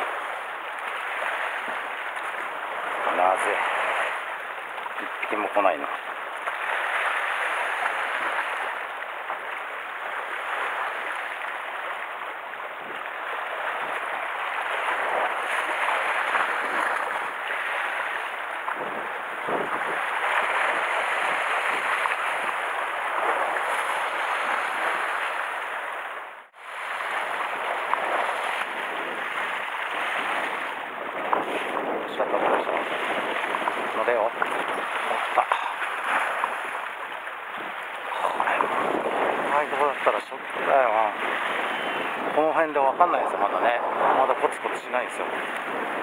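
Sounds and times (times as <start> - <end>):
sea water splashing on rocks: 0.0 - 41.6.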